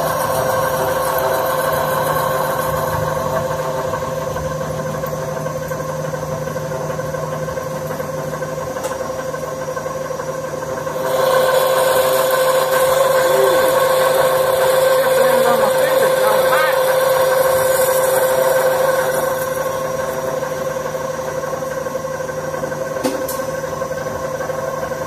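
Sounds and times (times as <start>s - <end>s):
lathe machine hum with constant tone: 0.0s - 25.0s.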